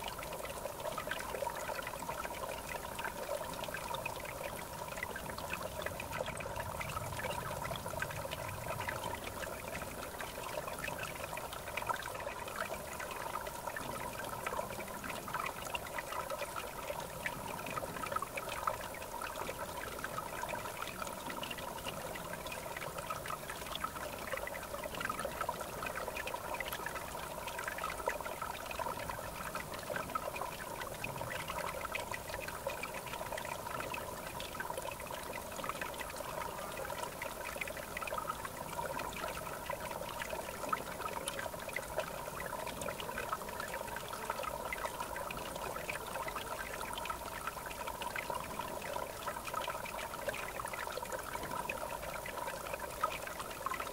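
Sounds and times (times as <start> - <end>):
river water babbling: 0.0 - 53.9.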